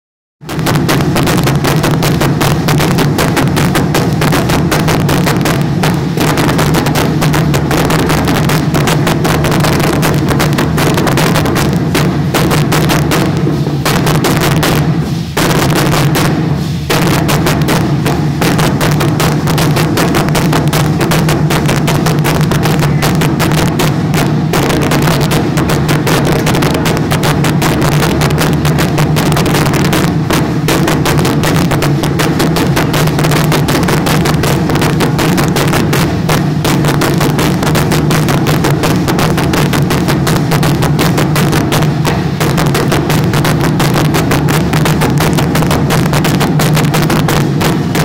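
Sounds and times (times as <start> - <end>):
wooden drums beating fast: 0.4 - 48.0.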